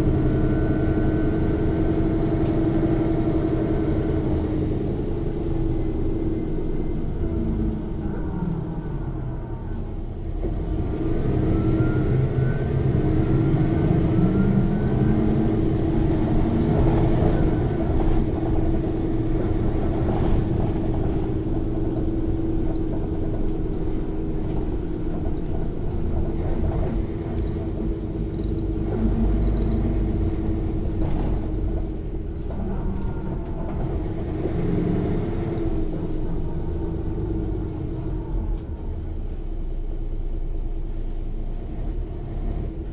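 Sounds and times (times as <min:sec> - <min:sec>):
bus engine under load: 0:00.0 - 0:42.9.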